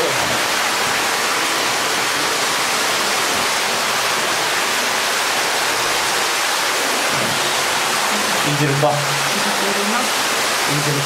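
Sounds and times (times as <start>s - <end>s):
water rushing in a cave: 0.0s - 11.0s.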